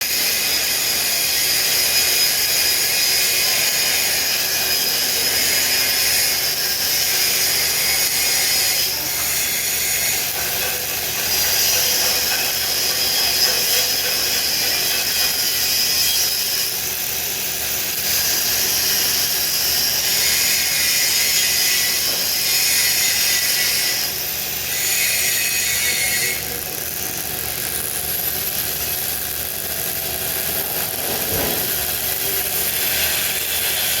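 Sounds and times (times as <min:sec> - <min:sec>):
welding arc crackling and hissing: 0:00.0 - 0:34.0.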